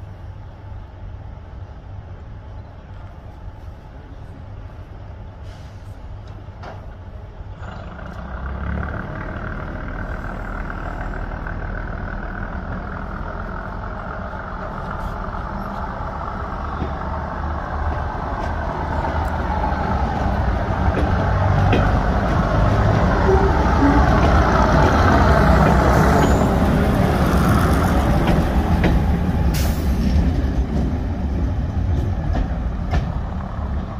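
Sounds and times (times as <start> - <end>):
train diesel engines running: 0.0 - 33.9.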